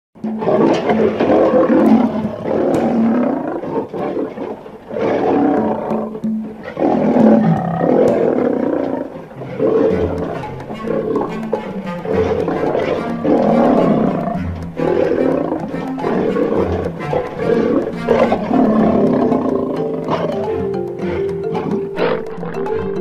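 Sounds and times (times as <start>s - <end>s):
music: 0.2s - 3.6s, 5.2s - 23.0s
lion roaring and growling: 0.3s - 23.0s.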